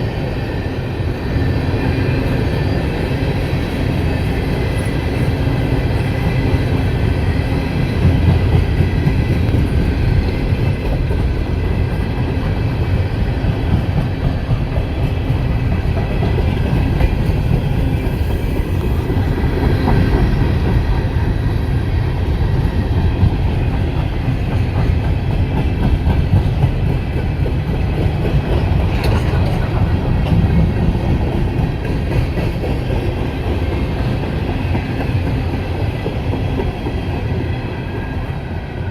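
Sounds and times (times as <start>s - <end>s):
freight train wheels rumbling on rails: 0.0s - 38.9s
clickety-clack over rail joints: 0.3s - 38.9s.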